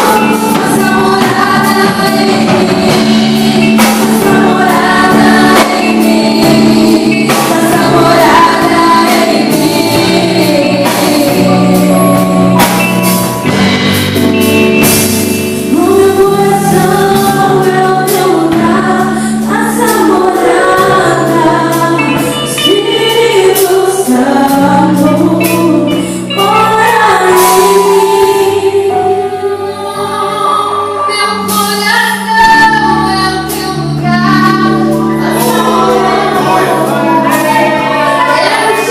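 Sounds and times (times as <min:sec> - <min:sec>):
women singing worship song: 0:00.0 - 0:13.8, 0:15.6 - 0:38.9
instrumental accompaniment with beat: 0:00.0 - 0:38.9.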